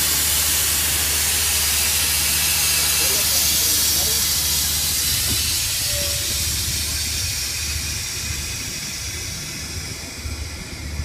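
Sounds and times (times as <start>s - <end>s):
rushing air hiss: 0.0s - 11.0s
train rumble: 0.0s - 11.0s.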